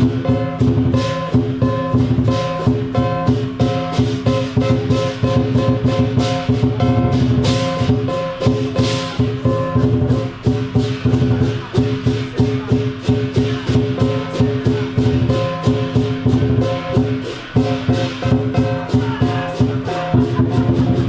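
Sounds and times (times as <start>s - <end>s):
ringing gong drone: 0.0s - 10.7s, 13.4s - 21.0s
cymbal strikes: 0.0s - 21.0s
drum beating: 0.0s - 21.0s.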